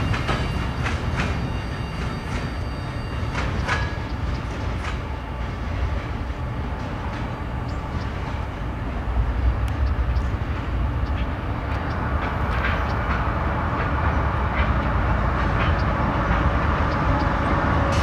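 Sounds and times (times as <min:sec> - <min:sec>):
freight train rumbling: 0:00.0 - 0:18.0
wheels clicking on rails: 0:00.0 - 0:18.0.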